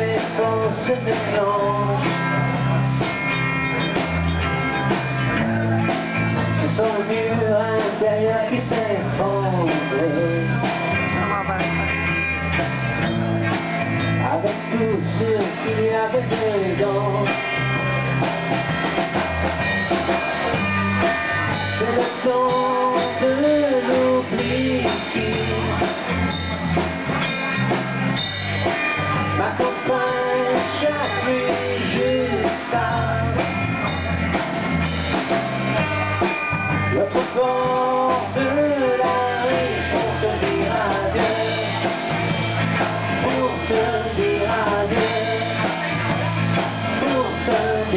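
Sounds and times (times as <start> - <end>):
drum beat: 0.0 - 47.9
electric guitar strumming: 0.0 - 47.9.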